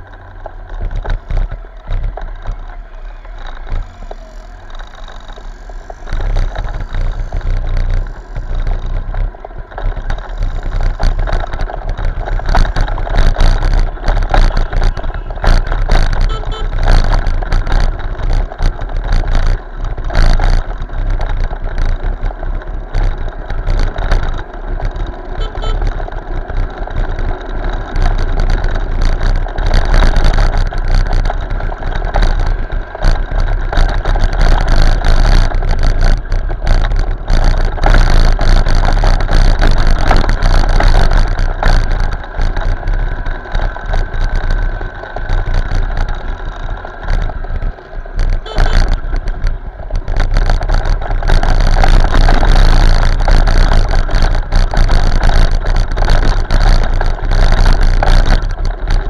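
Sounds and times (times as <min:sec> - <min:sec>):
motorbike engine: 0:00.0 - 0:59.0
traffic: 0:00.0 - 0:59.0
wind buffeting on microphone: 0:00.0 - 0:59.0.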